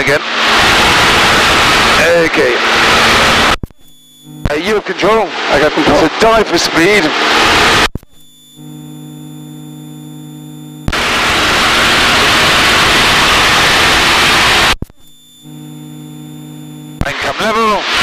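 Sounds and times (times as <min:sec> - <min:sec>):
electrical hum with fixed tones: 0:00.0 - 0:18.0.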